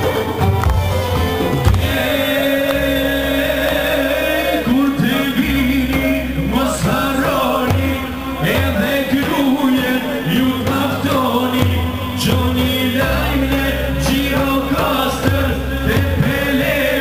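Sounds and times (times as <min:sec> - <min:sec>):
amplified band accompaniment: 0:00.0 - 0:17.0
man singing into a microphone: 0:01.8 - 0:17.0.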